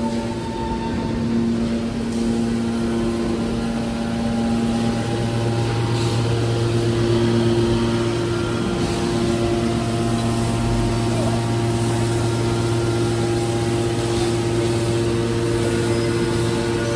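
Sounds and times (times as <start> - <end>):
hydraulic power unit humming: 0.0 - 16.9.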